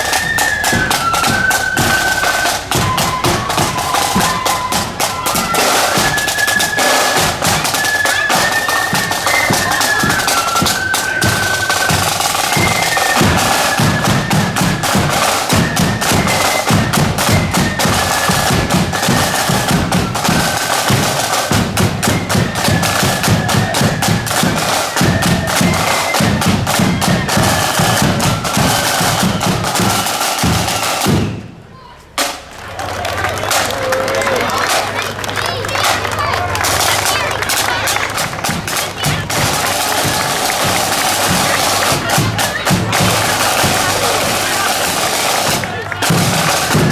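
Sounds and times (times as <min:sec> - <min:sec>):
marching band melody: 0:00.0 - 0:46.9
snare drum rolls: 0:00.0 - 0:46.9.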